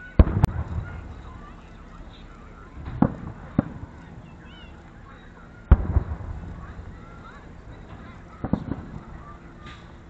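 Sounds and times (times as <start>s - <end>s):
distant fireworks bursting: 0.0s - 10.0s
low rumbling tail: 0.0s - 10.0s.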